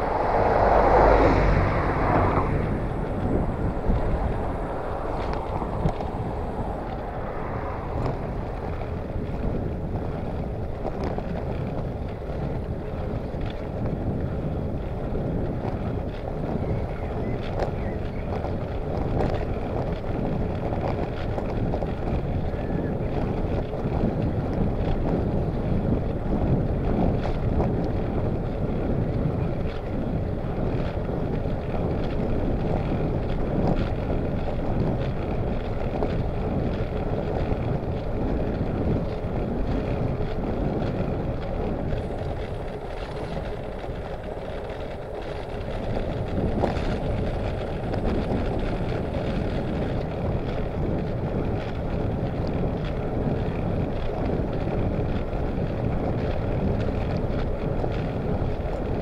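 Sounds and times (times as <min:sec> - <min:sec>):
road and tyre rumble: 0:00.0 - 0:59.0
wind buffeting microphone: 0:00.0 - 0:59.0.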